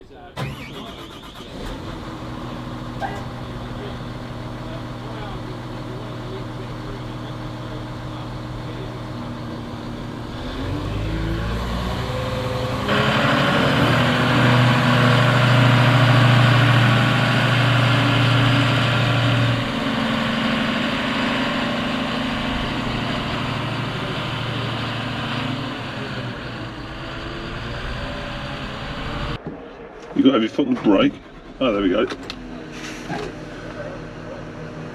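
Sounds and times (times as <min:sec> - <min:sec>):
diesel engine revving: 0:00.0 - 0:29.4, 0:31.2 - 0:34.9
loud full roar: 0:00.4 - 0:29.4.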